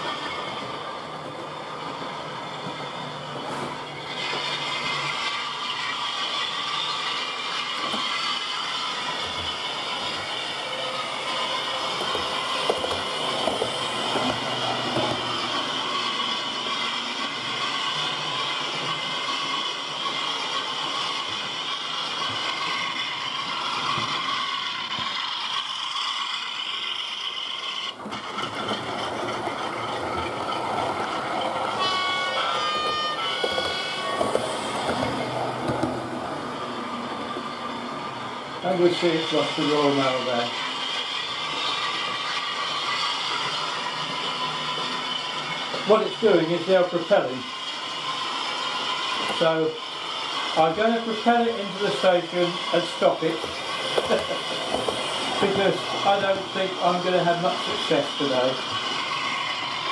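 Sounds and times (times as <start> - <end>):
diesel locomotive engine drone: 0.0 - 59.9
model train rolling on track: 0.0 - 59.9.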